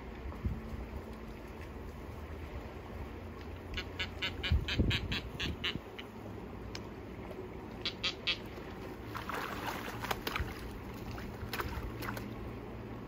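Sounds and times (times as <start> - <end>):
water sloshing and splashing: 0.0 - 4.2, 6.0 - 13.0.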